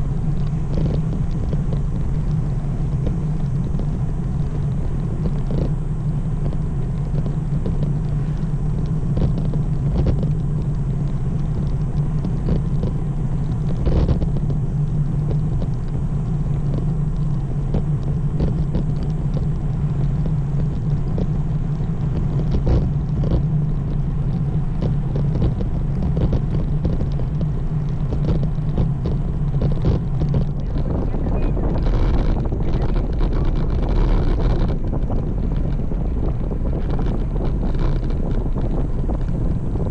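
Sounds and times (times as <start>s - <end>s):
bicycle rumble on pavement: 0.0s - 39.9s
wind noise on microphone: 0.0s - 39.9s.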